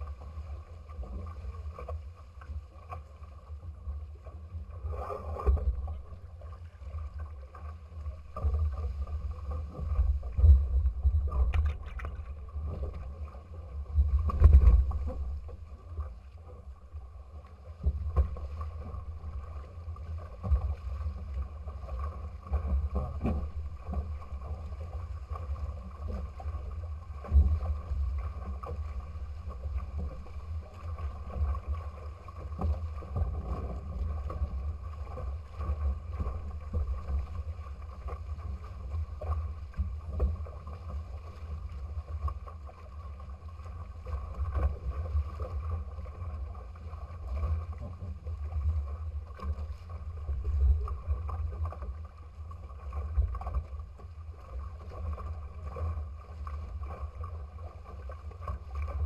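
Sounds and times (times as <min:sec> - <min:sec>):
water rushing past hulls: 0:00.0 - 0:59.0
wind rumble on microphone: 0:00.0 - 0:59.0.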